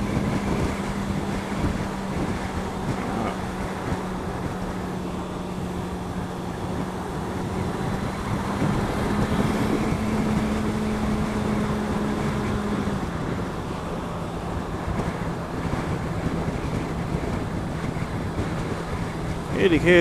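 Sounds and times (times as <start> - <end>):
motorcycle engine droning: 0.0 - 20.0
wind rushing over microphone: 0.0 - 20.0.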